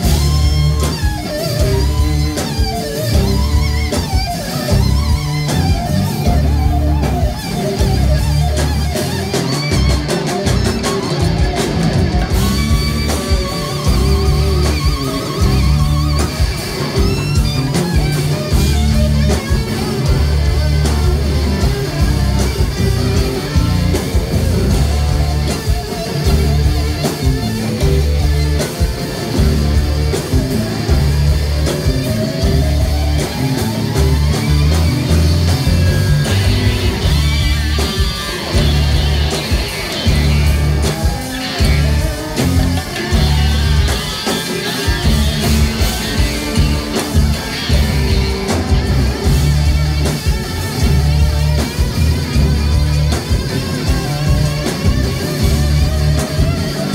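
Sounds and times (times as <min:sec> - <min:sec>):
bass guitar: 0:00.0 - 0:56.9
drums heavy beat: 0:00.0 - 0:56.9
electric guitar: 0:00.0 - 0:56.9.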